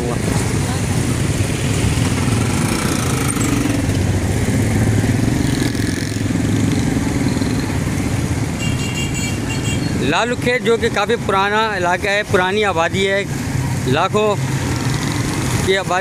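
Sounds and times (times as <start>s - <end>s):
motorcycle engines humming: 0.0s - 16.0s.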